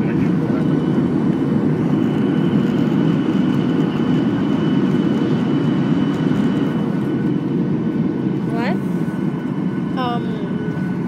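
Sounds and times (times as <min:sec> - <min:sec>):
airflow rushing in aircraft cabin: 0:00.0 - 0:11.0
jet engine noise: 0:00.0 - 0:11.0.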